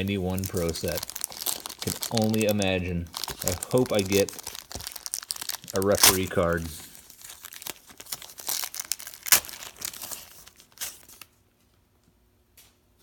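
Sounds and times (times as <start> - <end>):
wrapper tearing and crinkling: 0.0 - 11.4.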